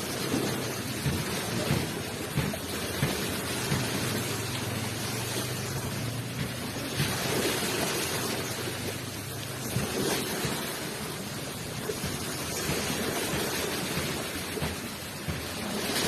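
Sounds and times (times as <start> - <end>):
ocean waves on shore: 0.0 - 16.0.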